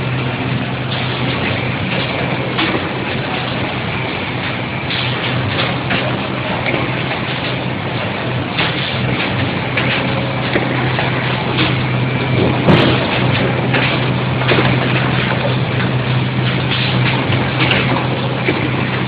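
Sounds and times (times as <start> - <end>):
machine clatter: 0.0 - 19.0
machine droning: 0.0 - 19.0.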